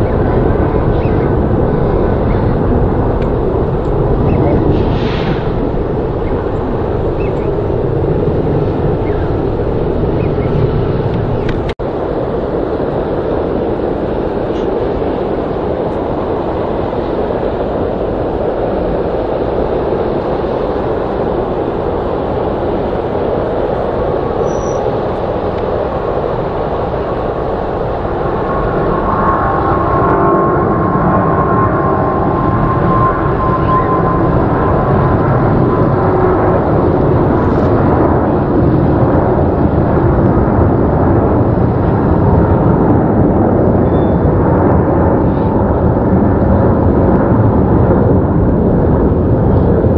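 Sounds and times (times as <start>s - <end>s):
jet engine whine: 0.0s - 49.9s
jet engines roaring: 0.0s - 49.9s.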